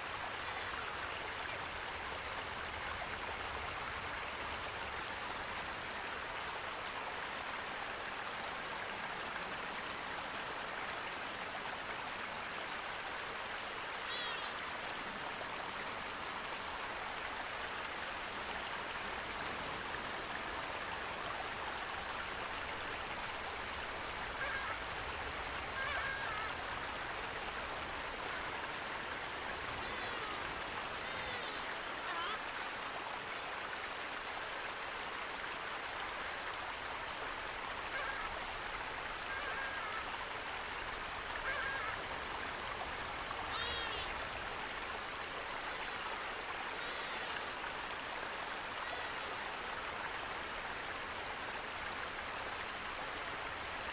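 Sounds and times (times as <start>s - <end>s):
running water rushing: 0.0s - 53.9s.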